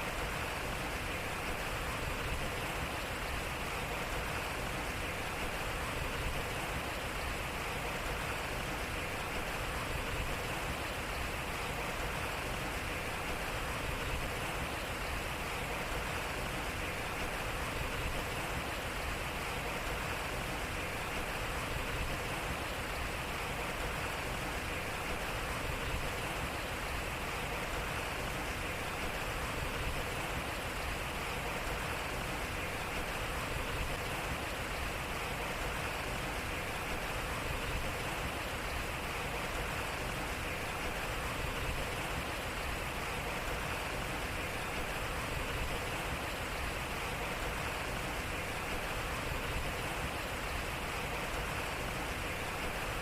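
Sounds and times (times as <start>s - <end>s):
water rushing at waterwheel: 0.0s - 53.0s.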